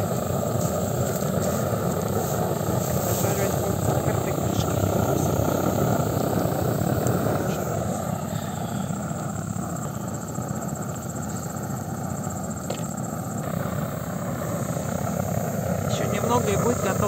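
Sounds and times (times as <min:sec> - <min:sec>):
blowtorch flame rushing: 0:00.0 - 0:17.0.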